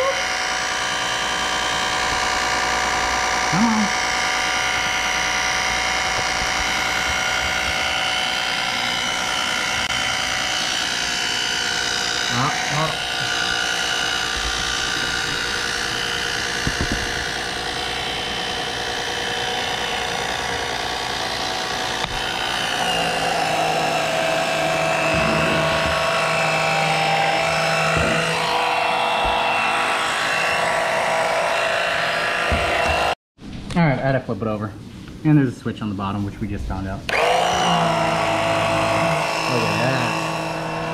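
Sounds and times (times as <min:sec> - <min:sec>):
electric pump whining: 0:00.0 - 0:33.2, 0:37.1 - 0:40.9.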